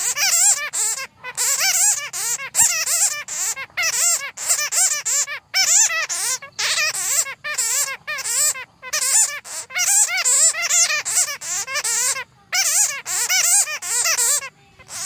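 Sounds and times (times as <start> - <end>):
bats squeaking and chirping: 0.0 - 15.0.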